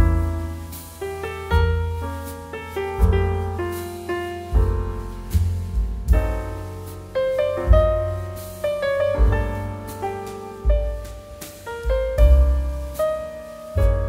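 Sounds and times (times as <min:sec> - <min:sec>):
deep bass notes: 0:00.0 - 0:14.0
piano music: 0:00.0 - 0:14.0.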